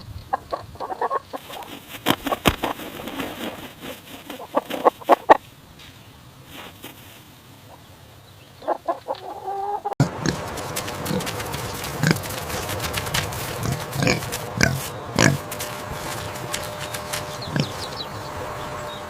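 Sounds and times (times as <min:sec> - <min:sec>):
farm animals calling: 0:00.3 - 0:02.8, 0:03.4 - 0:05.5, 0:06.5 - 0:19.0.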